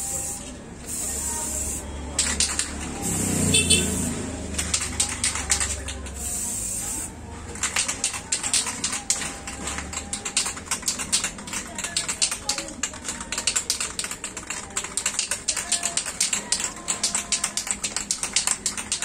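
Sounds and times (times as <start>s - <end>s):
spray can ball rattling: 0.2s - 19.0s.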